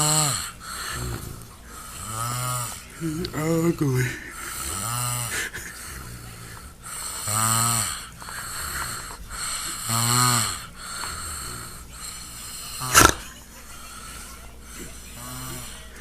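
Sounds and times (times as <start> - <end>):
person snoring heavily: 0.0 - 13.2, 15.2 - 16.0
quiet breaths: 0.0 - 16.0.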